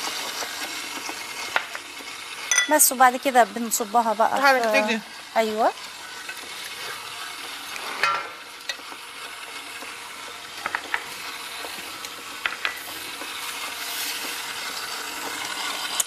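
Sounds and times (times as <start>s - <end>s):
patties sizzling in hot oil: 0.0s - 16.0s.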